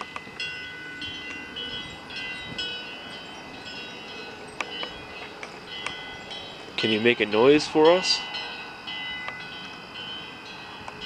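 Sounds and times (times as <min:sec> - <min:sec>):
wind chime ringing: 0:00.0 - 0:11.0.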